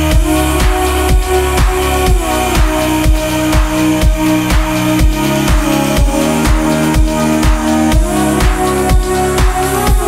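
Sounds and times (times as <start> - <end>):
kick drum: 0.0 - 10.0.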